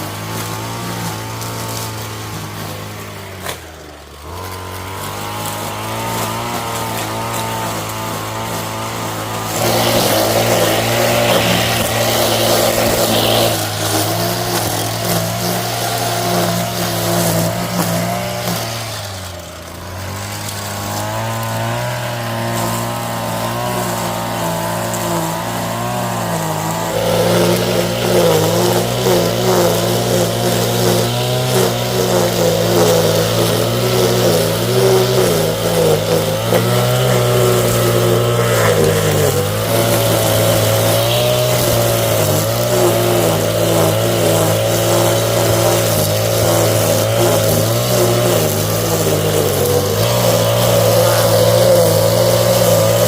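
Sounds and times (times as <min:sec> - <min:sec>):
engine running under load: 0:00.0 - 0:53.0.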